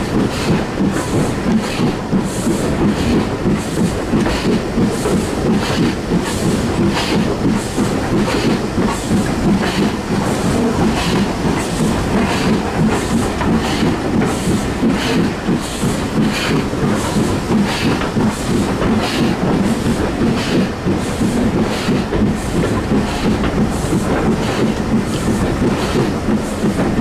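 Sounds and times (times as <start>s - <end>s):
steam locomotive exhaust chuffs: 0.0s - 27.0s
wheels clattering on rails: 0.0s - 27.0s.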